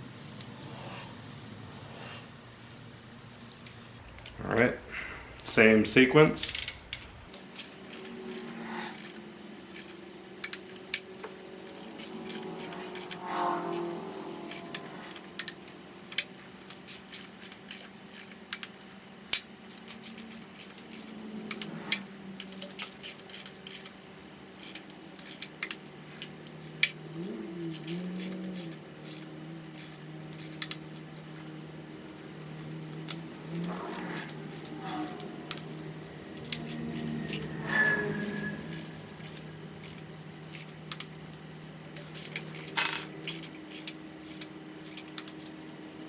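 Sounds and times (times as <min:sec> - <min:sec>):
torque wrench ratcheting: 0:06.4 - 0:46.0.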